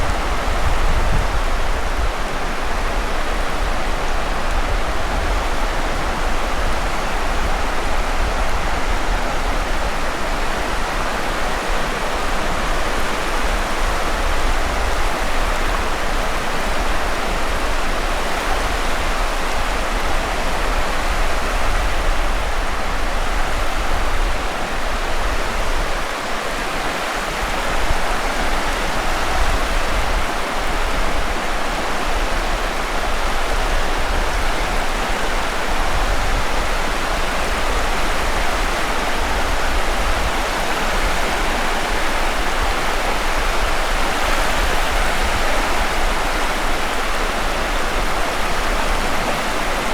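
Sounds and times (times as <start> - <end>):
wind: 0.0 - 49.9.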